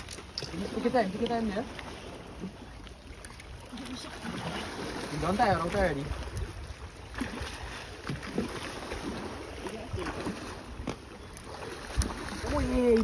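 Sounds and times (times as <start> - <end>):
low wind: 0.0 - 13.0
sea noise: 0.0 - 13.0.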